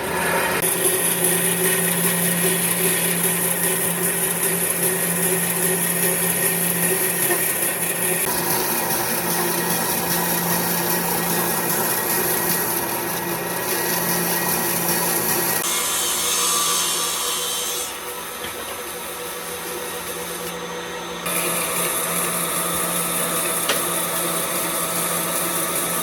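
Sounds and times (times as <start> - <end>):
electric power tool running: 0.0 - 26.0.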